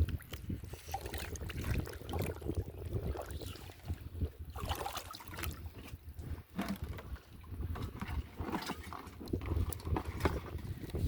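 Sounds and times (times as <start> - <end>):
water sloshing and splashing: 0.0 - 11.0
wind rumbling on microphone: 0.0 - 11.0.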